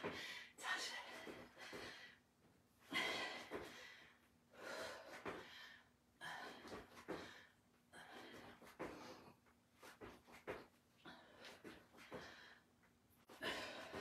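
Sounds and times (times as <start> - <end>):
woman breathing hard: 0.0 - 10.1, 11.0 - 14.0.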